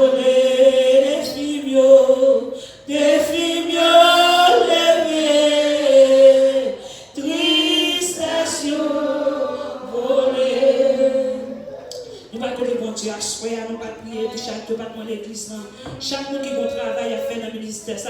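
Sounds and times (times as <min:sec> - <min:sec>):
congregation singing a hymn: 0:00.0 - 0:14.8.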